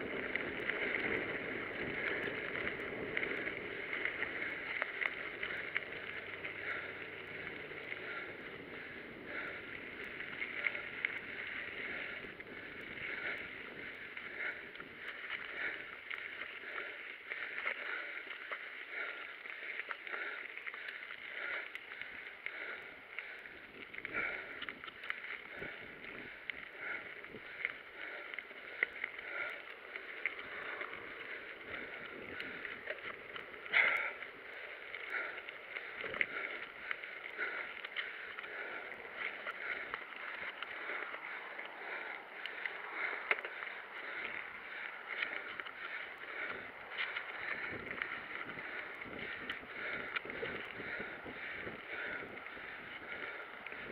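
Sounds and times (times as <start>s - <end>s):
bike tyres crunching on gravel: 0.0s - 53.9s.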